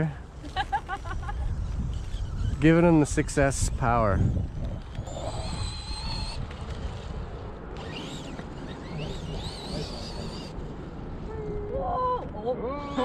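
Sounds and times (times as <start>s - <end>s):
electric motor whining: 0.0s - 11.3s, 12.8s - 13.0s
wind on microphone: 0.8s - 13.0s.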